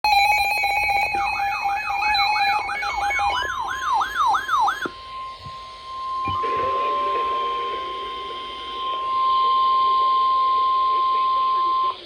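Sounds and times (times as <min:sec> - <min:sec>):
falling siren-like sweeps: 0:00.1 - 0:12.0.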